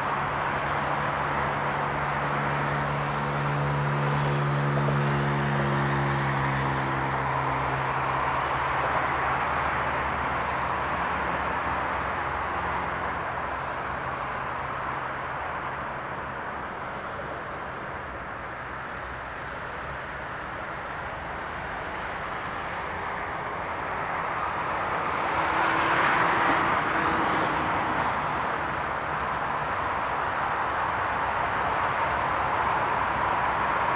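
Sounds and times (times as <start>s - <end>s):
distant city traffic: 0.0s - 33.9s
vehicle passing: 1.2s - 15.1s, 19.7s - 33.9s.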